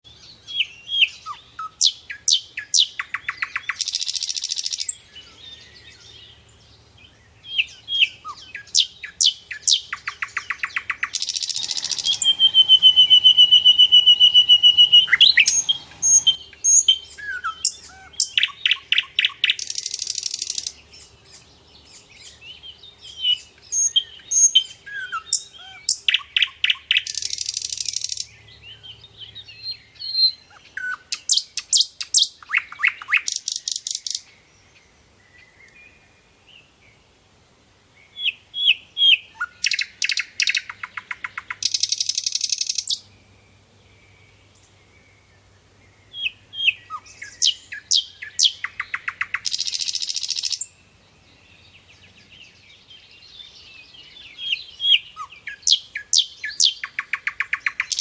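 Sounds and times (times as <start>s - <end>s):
nightingale singing: 0.0s - 37.0s, 38.0s - 58.0s.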